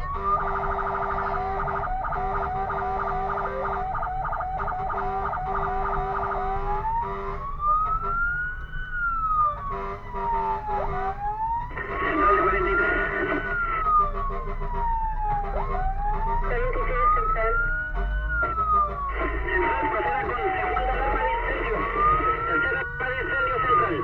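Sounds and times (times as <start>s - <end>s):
fire engine siren: 0.0s - 24.0s.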